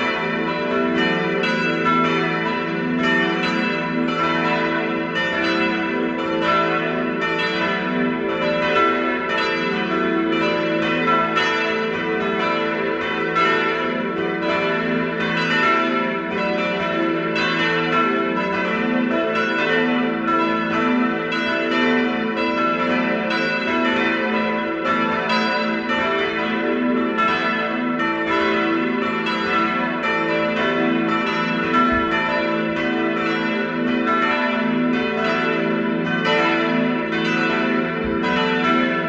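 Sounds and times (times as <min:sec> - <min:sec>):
church bells pealing: 0:00.0 - 0:39.0.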